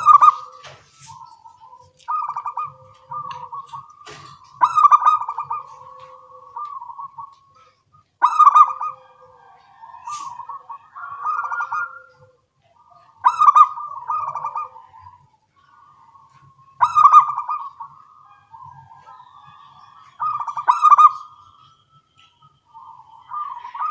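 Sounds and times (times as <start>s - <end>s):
doves cooing: 0.0s - 23.9s.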